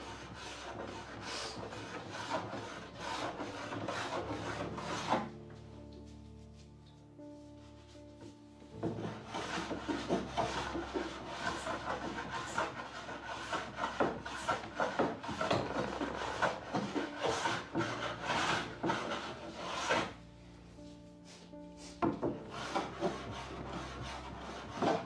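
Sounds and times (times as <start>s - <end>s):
rasping strokes on wood: 0.0s - 5.4s, 7.3s - 20.2s, 20.8s - 25.0s.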